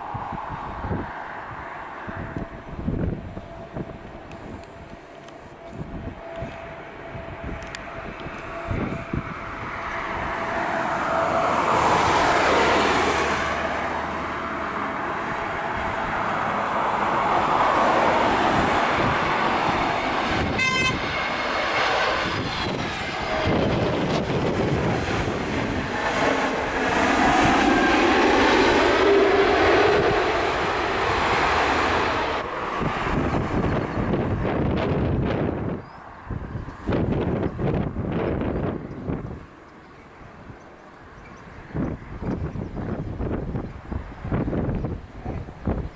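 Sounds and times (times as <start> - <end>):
airliner engines roaring: 0.0 - 45.9.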